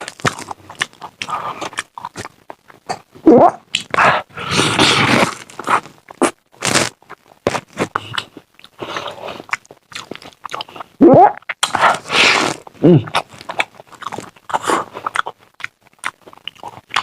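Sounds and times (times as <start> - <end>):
person crunching and chewing: 0.0 - 17.0.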